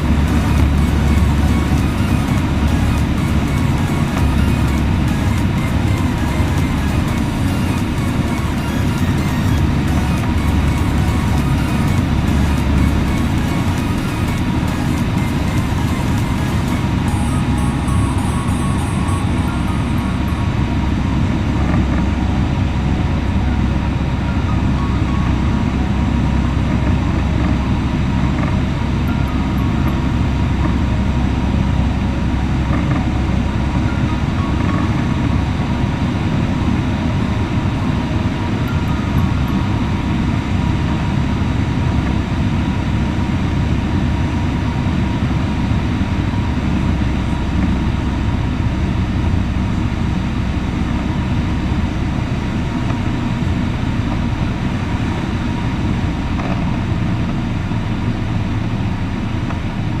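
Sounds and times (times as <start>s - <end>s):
light aircraft engine and propeller: 0.0s - 60.0s.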